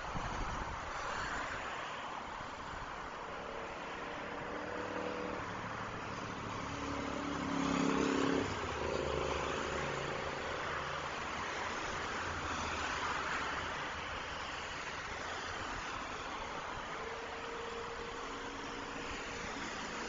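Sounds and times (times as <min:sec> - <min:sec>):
cars passing: 0:00.0 - 0:20.0
highway traffic tyre noise: 0:00.0 - 0:20.0.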